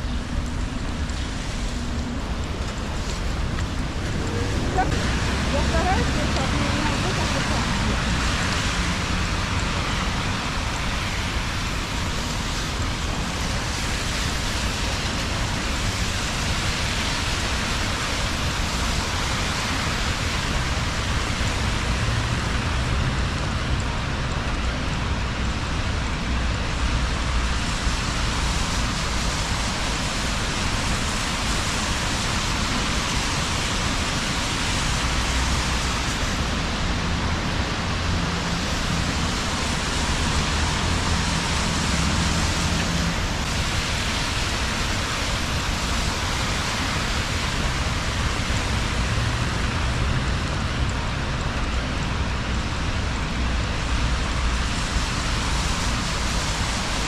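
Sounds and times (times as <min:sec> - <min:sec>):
rain on wet street: 0:00.0 - 0:57.0
road traffic rumble: 0:00.0 - 0:57.0.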